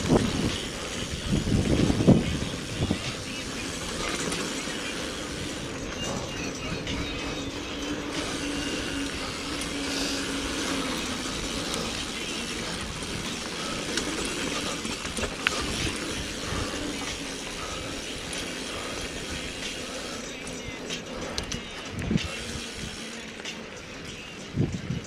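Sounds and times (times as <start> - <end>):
bike rattling: 0.0 - 25.0
bike tyres rolling on dirt: 0.0 - 25.0.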